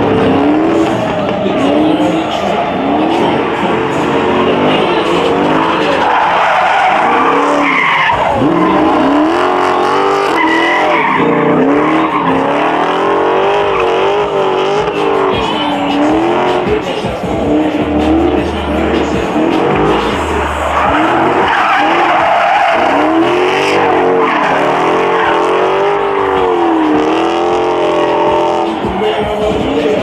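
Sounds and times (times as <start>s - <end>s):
car engine revving: 0.0s - 30.0s
tyres squealing: 0.0s - 30.0s.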